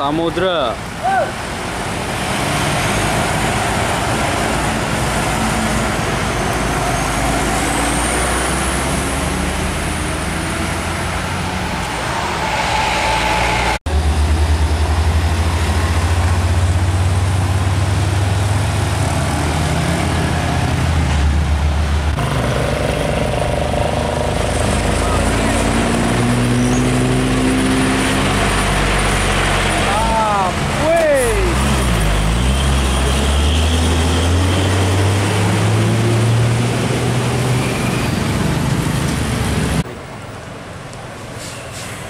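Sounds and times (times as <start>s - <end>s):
deep steady truck engine drone: 0.0s - 41.9s
diesel truck driving past: 1.5s - 40.2s.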